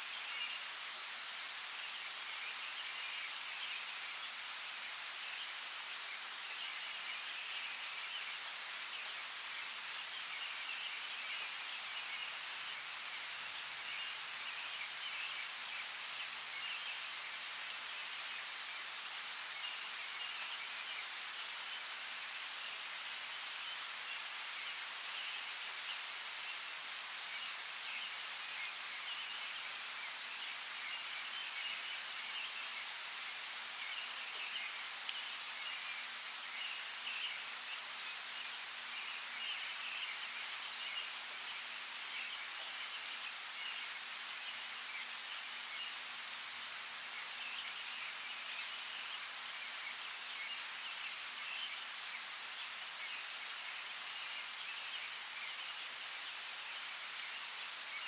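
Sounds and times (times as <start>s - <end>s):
small birds chirping faintly: 0.0s - 58.0s
steady rain falling: 0.0s - 58.0s.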